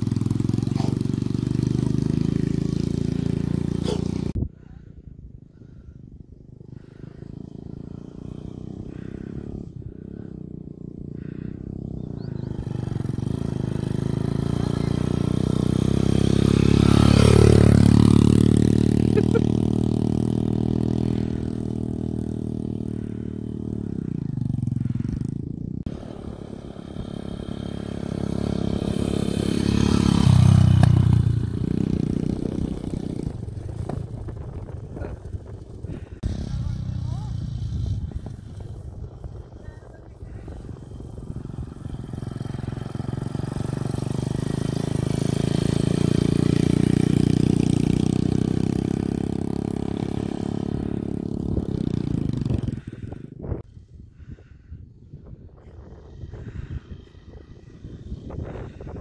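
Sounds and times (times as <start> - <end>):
dirt bike engine revving: 0.0 - 4.4, 6.6 - 53.3.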